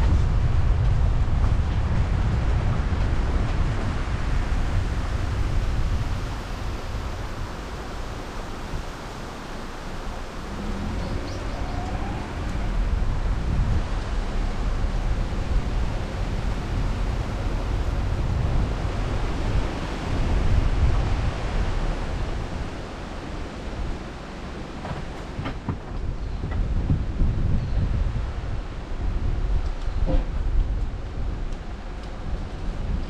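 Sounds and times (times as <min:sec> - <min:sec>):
car road noise rumble: 0:00.0 - 0:33.0
wind buffeting microphone: 0:00.0 - 0:33.0.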